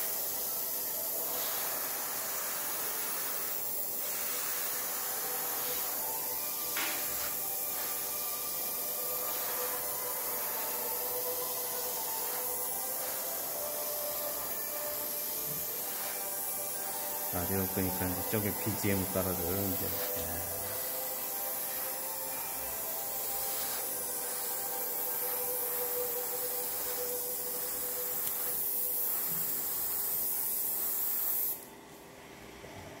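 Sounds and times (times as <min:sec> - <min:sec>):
airbrush spraying hiss: 0:00.0 - 0:31.7.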